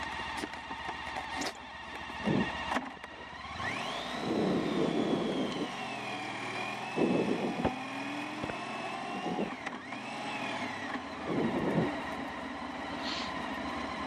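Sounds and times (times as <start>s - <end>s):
motorcycle engine whine: 0.0s - 14.0s.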